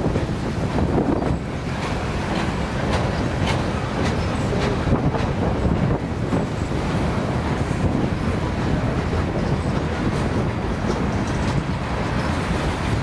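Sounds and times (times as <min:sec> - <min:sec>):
freight train rumble: 0:00.0 - 0:13.0
train wheels clicking: 0:00.0 - 0:13.0
wind buffeting microphone: 0:00.0 - 0:13.0.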